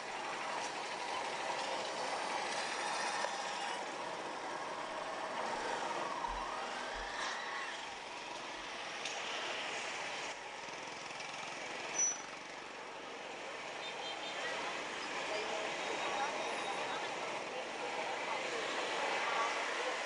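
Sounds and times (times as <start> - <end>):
motorbikes and cars passing: 0.0 - 20.0.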